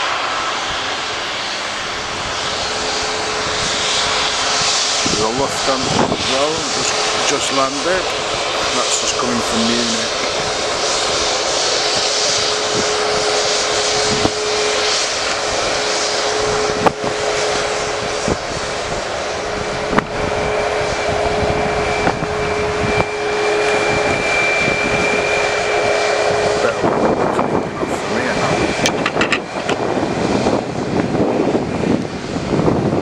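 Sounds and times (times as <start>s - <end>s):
higher whine: 0.0s - 33.0s
jet engines roaring and whining: 0.0s - 33.0s.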